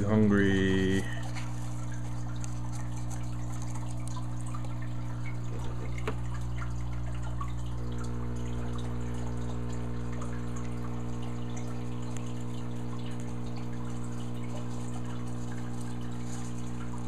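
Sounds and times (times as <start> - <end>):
air pump hum: 0.0 - 17.0
water bubbling and trickling: 0.0 - 17.0.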